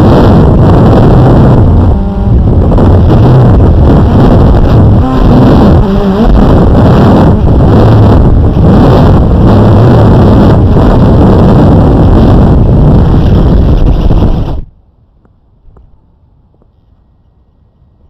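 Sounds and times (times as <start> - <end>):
drone propellers whirring: 0.0 - 14.7
wind buffeting microphone: 0.0 - 16.8.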